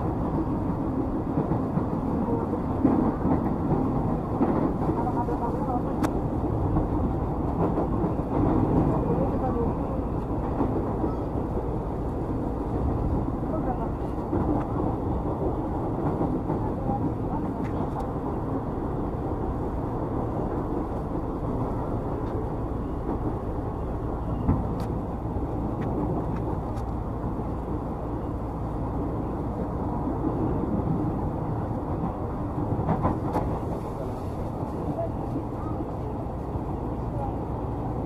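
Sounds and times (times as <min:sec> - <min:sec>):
train rumble and rail noise: 0:00.0 - 0:38.0.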